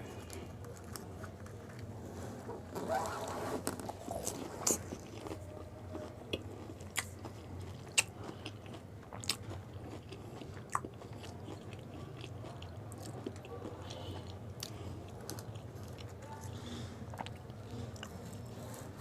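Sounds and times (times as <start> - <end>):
steady low hum: 0.0 - 19.0
chewing: 3.6 - 19.0.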